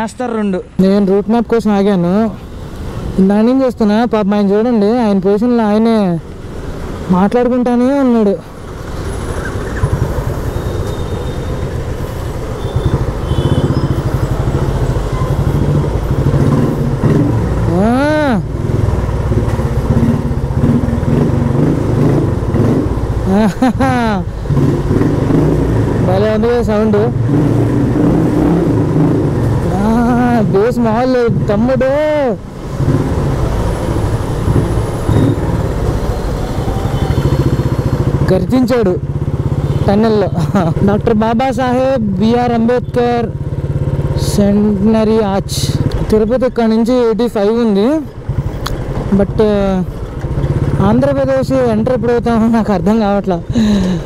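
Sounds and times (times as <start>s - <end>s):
motorcycle engine running: 8.5s - 54.0s.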